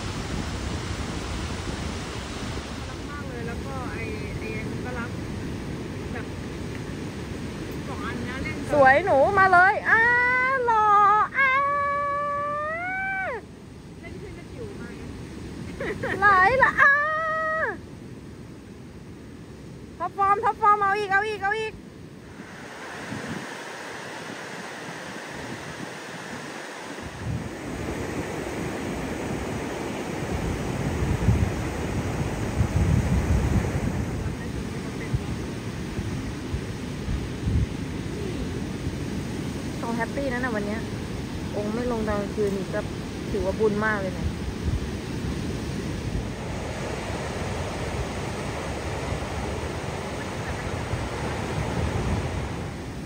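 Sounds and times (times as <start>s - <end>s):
surf breaking on beach: 0.0s - 53.0s
wind buffeting microphone: 0.0s - 53.0s.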